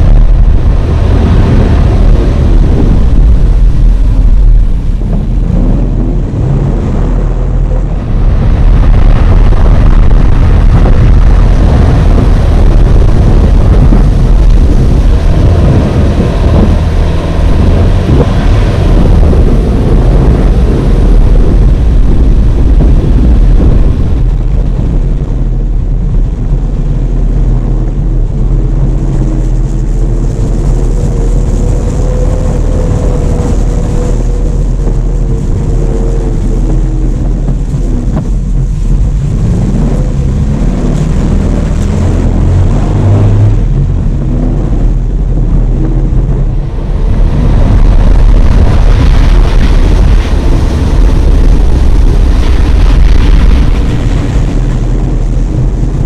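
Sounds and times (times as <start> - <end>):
car engine running: 0.0 - 56.0
low rumble from rough ground: 0.0 - 56.0.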